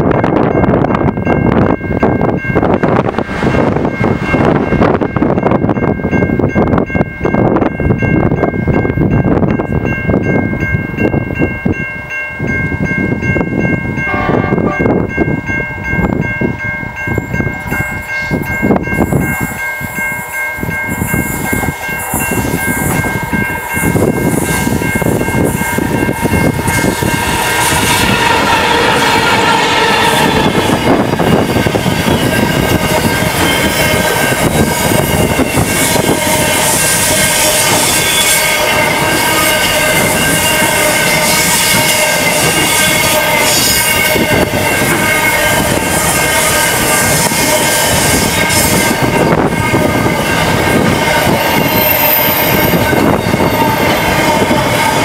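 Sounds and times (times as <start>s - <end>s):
wheels rattling on rails: 0.0s - 14.1s, 14.8s - 55.0s
freight train passing: 0.0s - 55.0s
steady high tones: 0.0s - 55.0s.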